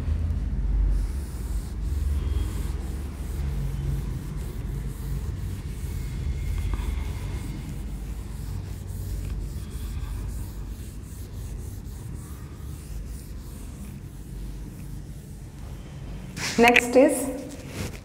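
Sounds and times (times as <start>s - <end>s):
steady low hum: 0.0s - 18.0s
eraser wiping whiteboard: 0.8s - 18.0s.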